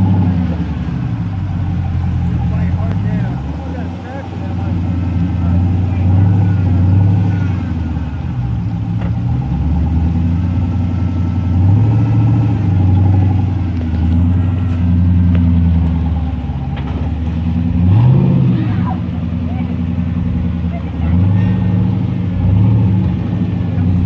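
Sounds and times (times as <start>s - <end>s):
off-road vehicle engine: 0.0s - 24.0s.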